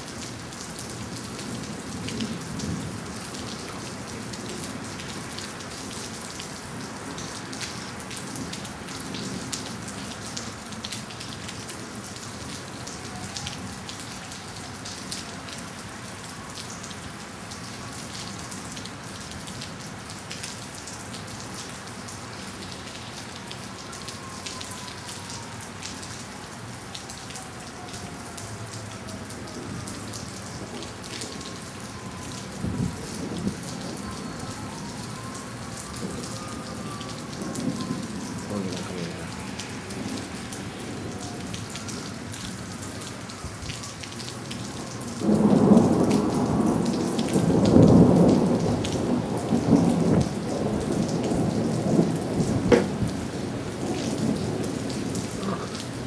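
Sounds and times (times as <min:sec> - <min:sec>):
heavy rain: 0:00.0 - 0:56.0
raindrops hitting surfaces: 0:00.0 - 0:56.0.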